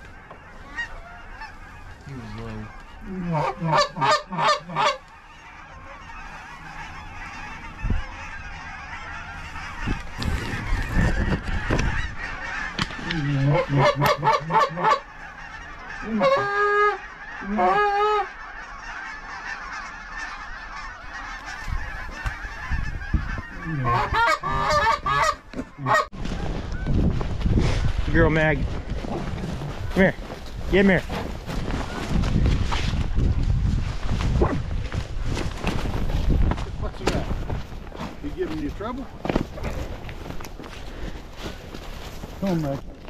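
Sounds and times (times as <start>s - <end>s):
geese honking: 0.0s - 43.0s.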